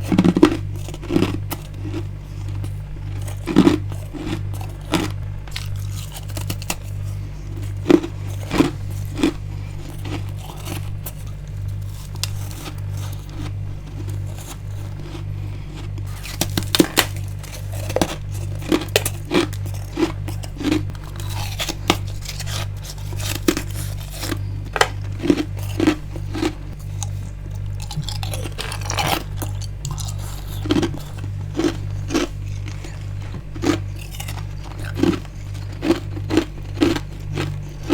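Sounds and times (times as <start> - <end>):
ice crunching while chewed: 0.0 - 37.9
low pulsing hum: 0.0 - 37.9.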